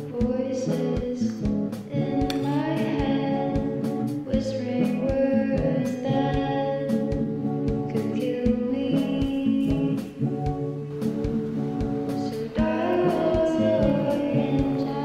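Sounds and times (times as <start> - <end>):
woman singing: 0.0 - 10.2, 12.1 - 15.0
guitar with steady beat: 0.0 - 15.0.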